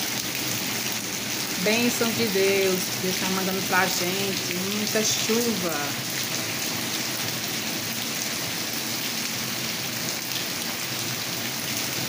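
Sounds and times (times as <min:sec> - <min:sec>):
heavy rain on ground and water: 0:00.0 - 0:12.0.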